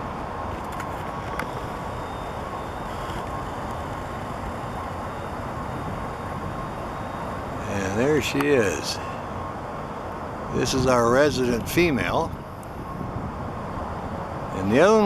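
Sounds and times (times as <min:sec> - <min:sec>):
faint steady hum: 0:00.0 - 0:15.0
low outdoor rumble: 0:00.0 - 0:15.0.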